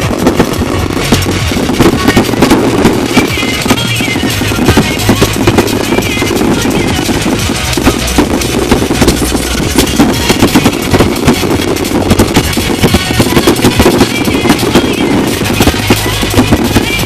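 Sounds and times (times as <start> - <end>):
firework bangs and crackles: 0.0 - 17.0
pop music playing loudly: 0.0 - 17.0.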